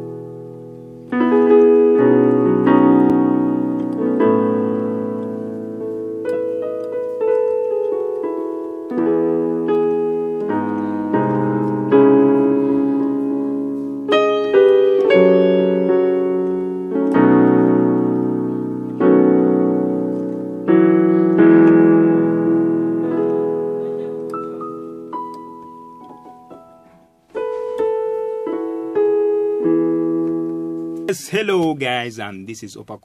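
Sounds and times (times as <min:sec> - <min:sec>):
keyboard piano chords: 0:00.0 - 0:32.7.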